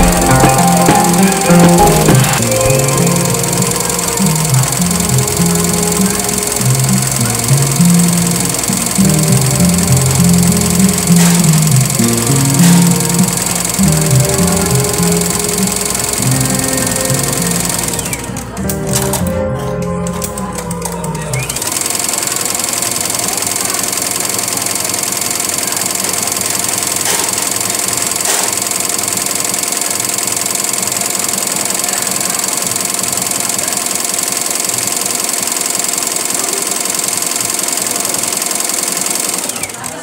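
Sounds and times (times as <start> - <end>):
embroidery machine stitching: 0.0 - 19.3, 20.1 - 40.0.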